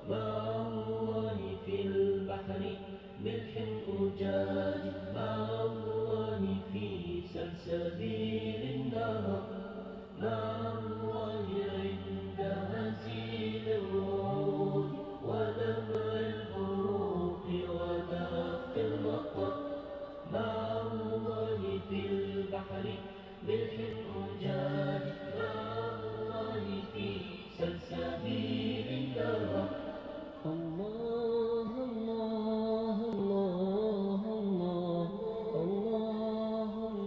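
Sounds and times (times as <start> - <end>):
voices singing slow melody: 0.0 - 37.0.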